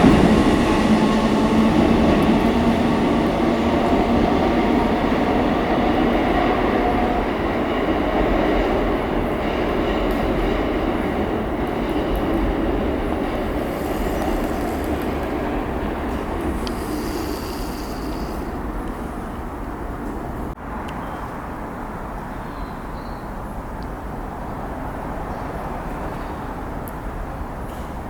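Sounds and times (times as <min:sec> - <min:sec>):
train wheels rumbling on rails: 0:00.0 - 0:21.9, 0:24.0 - 0:28.0.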